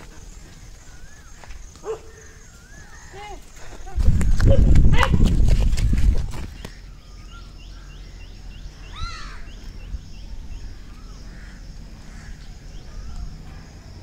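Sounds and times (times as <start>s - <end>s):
birds chirping: 0.0s - 5.1s, 5.8s - 14.0s.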